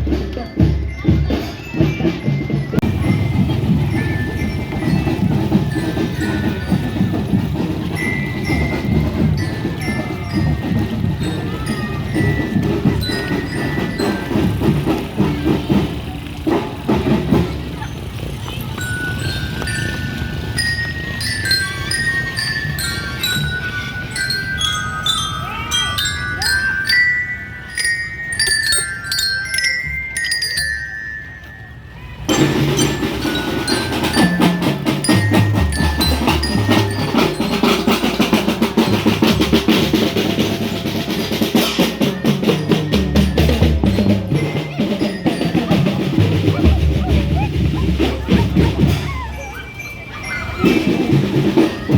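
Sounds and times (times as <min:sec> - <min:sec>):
glockenspiel melody: 0:00.0 - 0:16.0, 0:18.6 - 0:51.9
rapid marching drums: 0:00.0 - 0:51.9.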